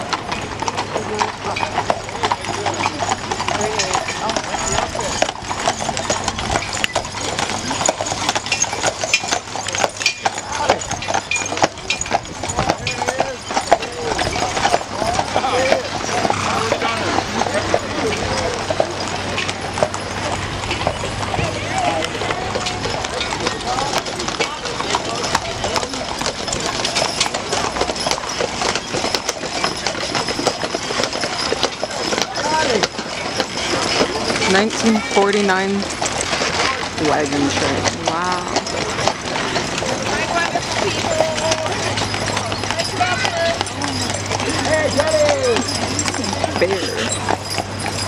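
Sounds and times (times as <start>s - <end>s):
hooves clip-clopping on asphalt: 0.0s - 48.0s
wooden wagon wheels rattling: 0.0s - 48.0s.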